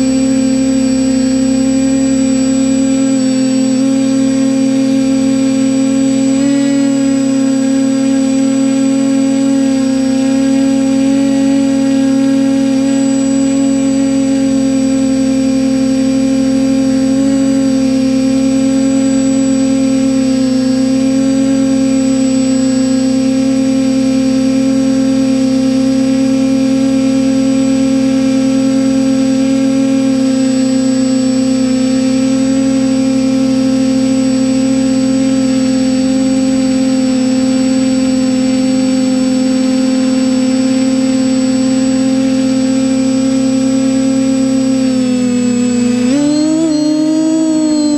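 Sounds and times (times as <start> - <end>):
drone motors and propellers whirring: 0.0 - 47.9.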